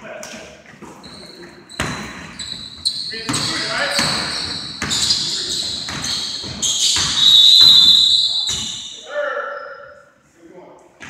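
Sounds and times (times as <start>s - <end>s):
sneakers squeaking: 0.7s - 10.1s.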